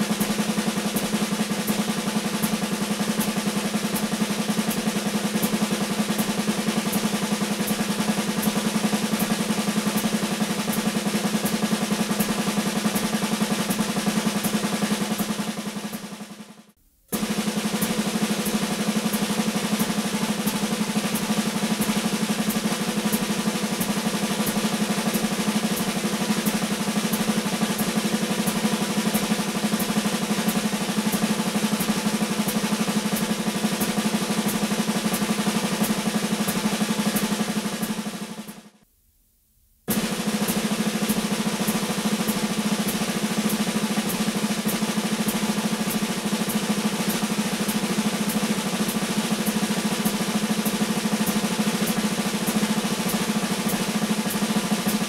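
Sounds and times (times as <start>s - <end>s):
snare drum strokes: 0.0s - 38.8s, 39.9s - 55.0s.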